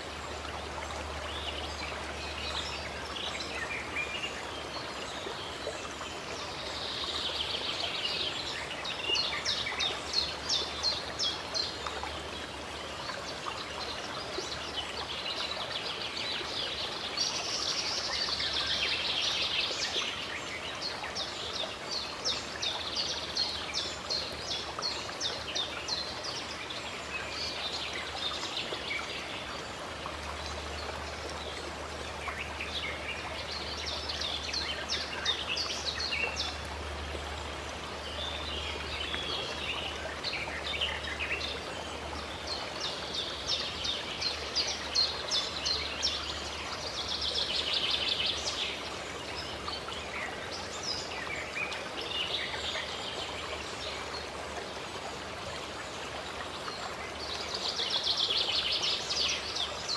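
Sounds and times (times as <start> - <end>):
running water of fountain: 0.0 - 59.9
songbirds chirping: 0.0 - 59.9.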